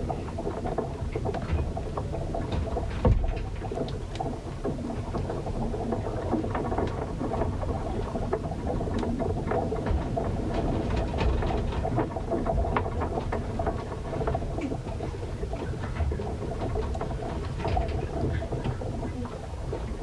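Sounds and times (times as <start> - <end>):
low rumble of wind and water: 0.0 - 20.0.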